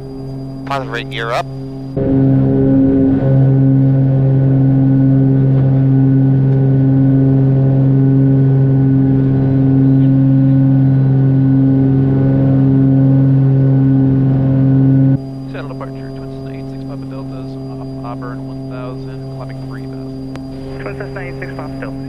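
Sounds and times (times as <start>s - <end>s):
propeller plane engines droning: 0.0s - 22.0s.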